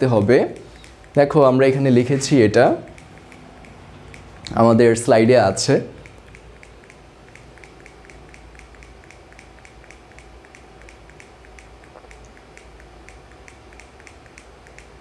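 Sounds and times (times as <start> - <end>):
faint low hum: 0.0 - 15.0
rapid ticking: 0.0 - 15.0.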